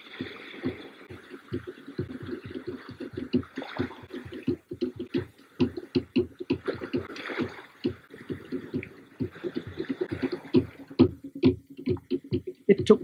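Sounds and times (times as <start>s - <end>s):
rapid drumbeats: 0.0s - 13.0s.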